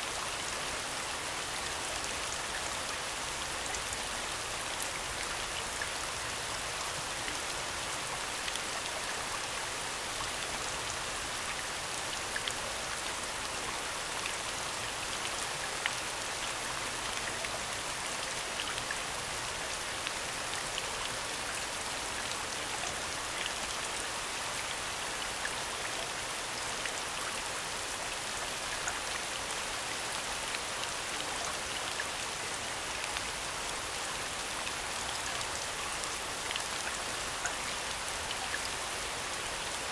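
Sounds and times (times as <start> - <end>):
steady falling rain: 0.0 - 39.9.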